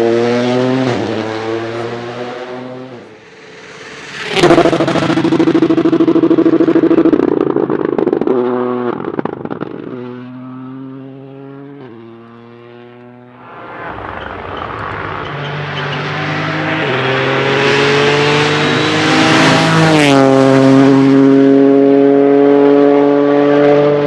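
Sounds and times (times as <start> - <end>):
rally car engine at full throttle: 0.0 - 24.0.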